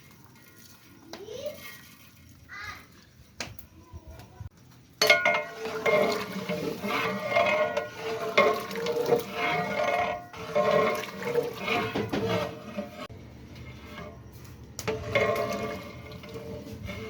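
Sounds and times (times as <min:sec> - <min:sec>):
boiling water churning in pot: 0:00.0 - 0:17.0.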